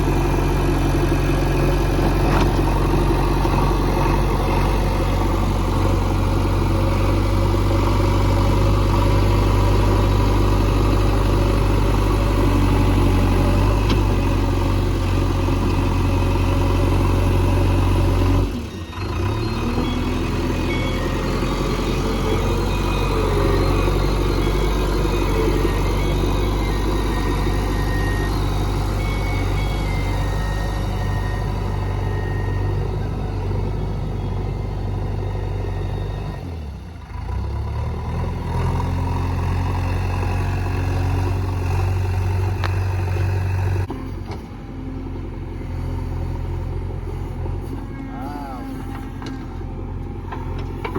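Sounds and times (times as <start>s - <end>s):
diesel engine humming: 0.0s - 50.9s.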